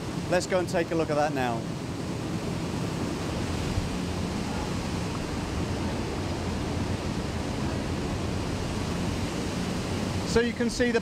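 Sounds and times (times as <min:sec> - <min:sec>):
industrial furnace roar: 0:00.0 - 0:11.0.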